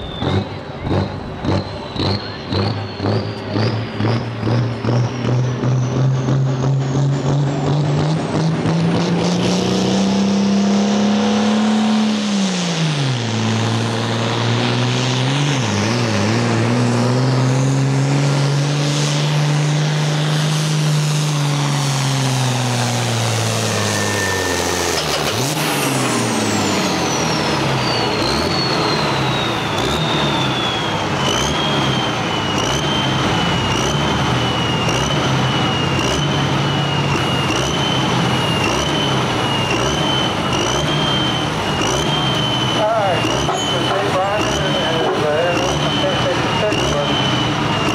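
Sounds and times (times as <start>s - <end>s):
tractor engine running hard: 0.0s - 47.9s
turbocharger whine: 0.0s - 47.9s.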